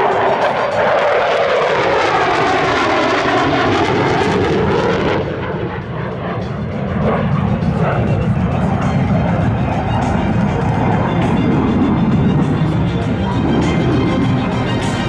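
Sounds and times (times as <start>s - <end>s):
jet aircraft passing: 0.0s - 15.0s.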